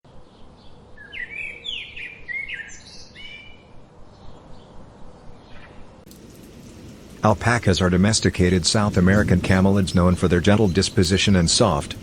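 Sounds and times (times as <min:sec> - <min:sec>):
songbirds chirping: 0:00.1 - 0:12.0.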